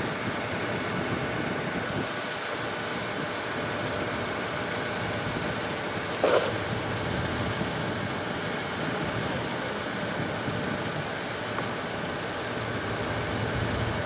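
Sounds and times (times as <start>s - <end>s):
diesel machinery running: 0.0s - 14.0s.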